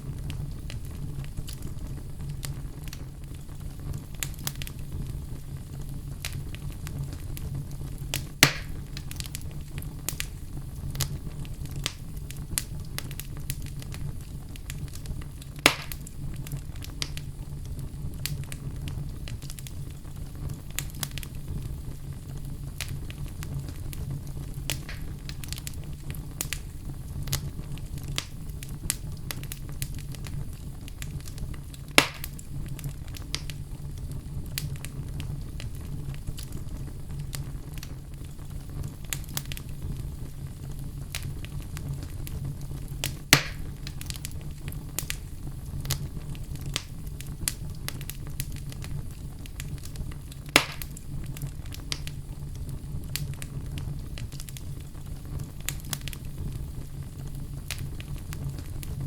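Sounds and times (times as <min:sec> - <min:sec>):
fire low rumble: 0:00.0 - 0:59.0
fire pops: 0:00.0 - 0:59.0
wood fire crackling: 0:00.0 - 0:59.0.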